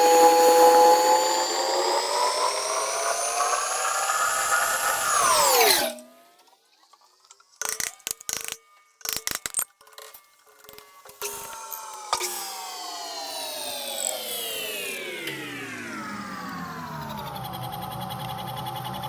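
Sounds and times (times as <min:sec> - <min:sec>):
machine tool motor whining: 0:00.0 - 0:19.0.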